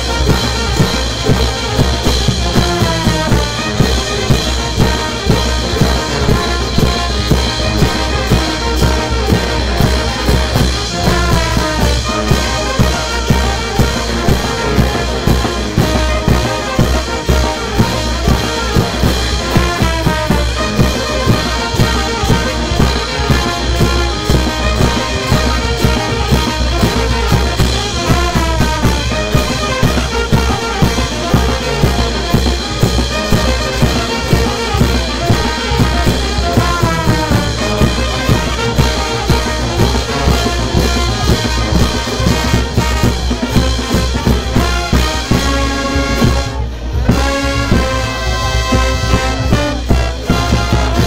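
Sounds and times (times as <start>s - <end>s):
brass band playing: 0.0s - 51.0s
drum kit beat: 0.0s - 51.0s.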